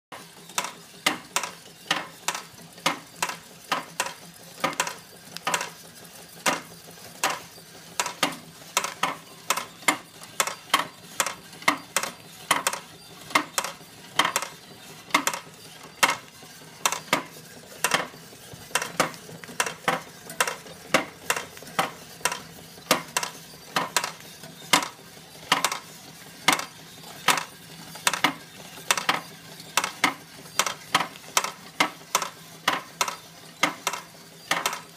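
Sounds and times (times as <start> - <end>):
faint steam engine hum: 0.2 - 34.9.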